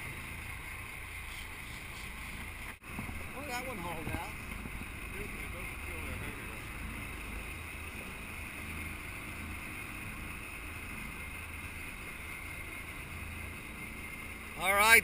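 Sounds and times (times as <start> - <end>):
boat engine humming: 0.0 - 15.0
wind and sea hiss: 0.0 - 15.0.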